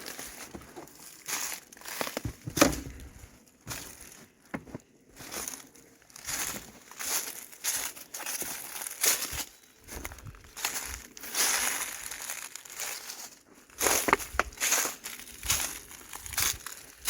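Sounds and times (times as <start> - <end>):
footsteps scuffing: 0.0 - 5.6, 6.2 - 16.8.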